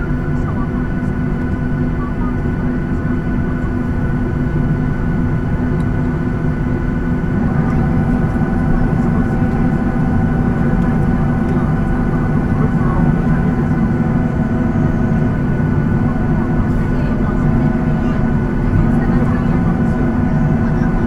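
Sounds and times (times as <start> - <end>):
airplane cabin engine rumble: 0.0 - 21.0
faint steady whines: 0.0 - 21.0.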